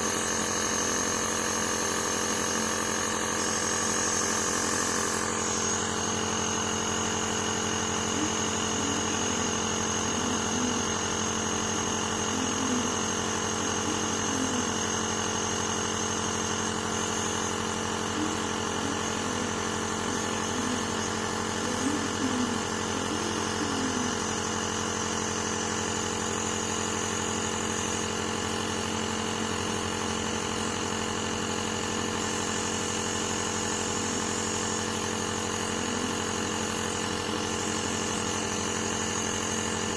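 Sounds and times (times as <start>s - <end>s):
nebulizer motor hum: 0.0s - 39.9s.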